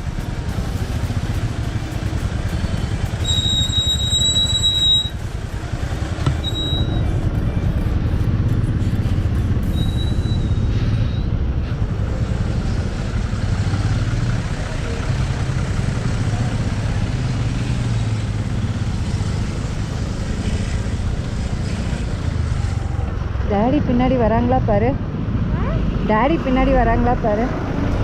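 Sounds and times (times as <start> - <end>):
scooter engine and road noise: 0.0 - 28.0.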